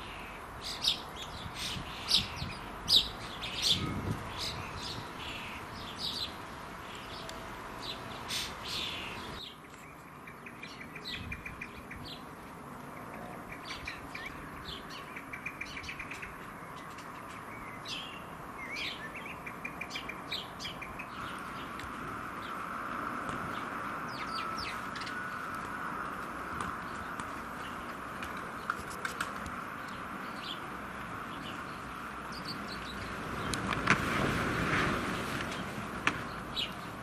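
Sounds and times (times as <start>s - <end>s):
birds chirping: 0.0s - 33.6s
background noise: 0.0s - 37.0s.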